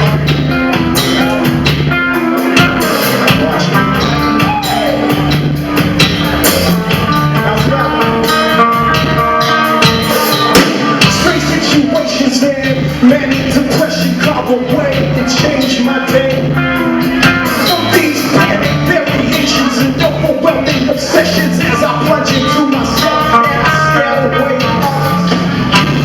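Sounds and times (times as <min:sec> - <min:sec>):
drums keeping a steady beat: 0:00.0 - 0:26.0
live rock band playing: 0:00.0 - 0:26.0.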